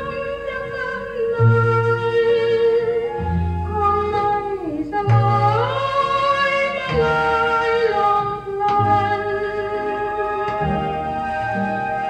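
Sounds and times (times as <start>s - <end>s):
band with bass line: 0.0s - 12.0s
woman singing: 0.0s - 12.0s.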